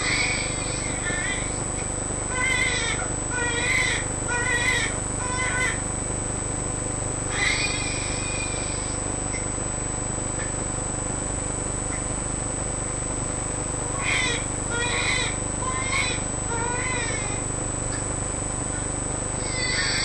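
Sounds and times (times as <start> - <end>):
background hiss with whine: 0.0 - 20.0.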